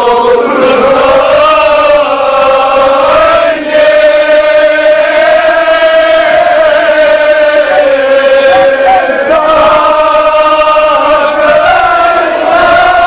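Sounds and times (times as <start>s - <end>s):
crowd of men chanting: 0.0s - 13.0s.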